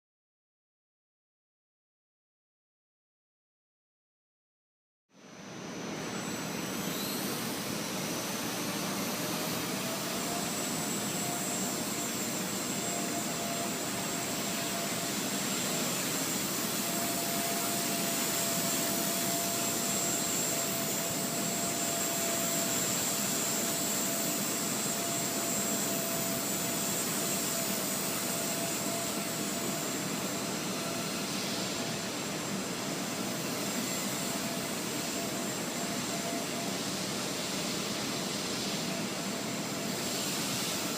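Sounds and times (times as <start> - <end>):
rc helicopter whirring: 5.3 - 40.9.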